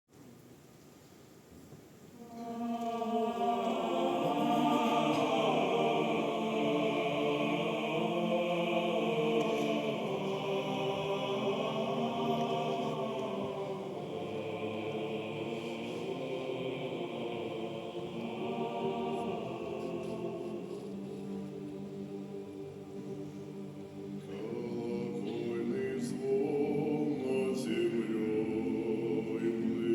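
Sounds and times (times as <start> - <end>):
male choir singing: 2.2 - 29.9.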